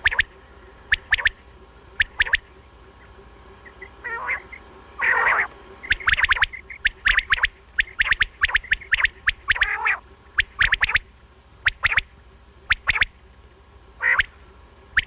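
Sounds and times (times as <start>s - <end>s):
quail calling: 0.0s - 13.2s, 14.0s - 15.0s.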